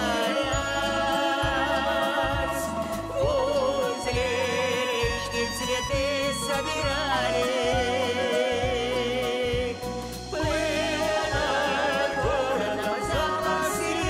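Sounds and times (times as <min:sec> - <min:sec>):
singing with vibrato: 0:00.0 - 0:14.0
steady beat and bass: 0:00.0 - 0:14.0.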